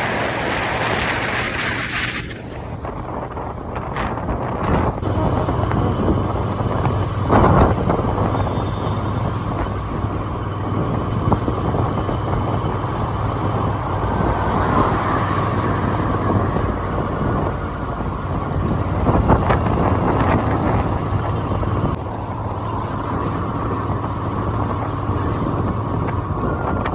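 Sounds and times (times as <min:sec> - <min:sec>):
motorcycle engine running: 0:00.0 - 0:26.9
wind rushing over microphone: 0:00.0 - 0:26.9.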